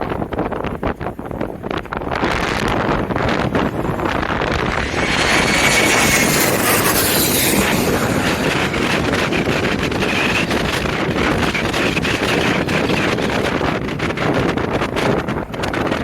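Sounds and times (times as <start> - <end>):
wind buffeting microphone: 0.0 - 16.0
jet airliner engine whine: 1.4 - 16.0.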